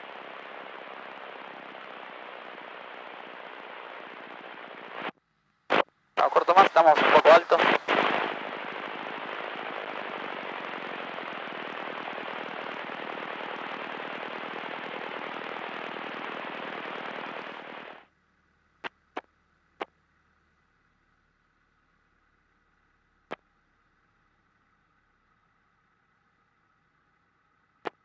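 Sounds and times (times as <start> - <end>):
cockpit engine and airflow noise: 0.0 - 26.8.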